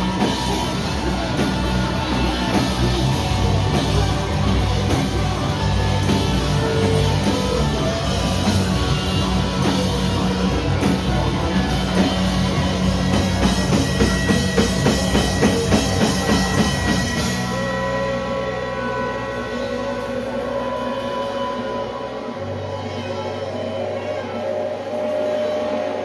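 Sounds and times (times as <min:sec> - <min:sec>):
distorted guitar: 0:00.0 - 0:26.0
rock band playing: 0:00.0 - 0:26.0.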